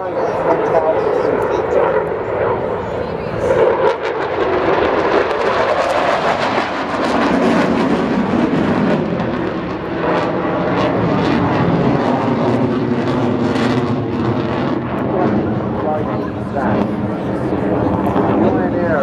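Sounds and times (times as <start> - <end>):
aircraft engine drone: 0.0 - 19.0.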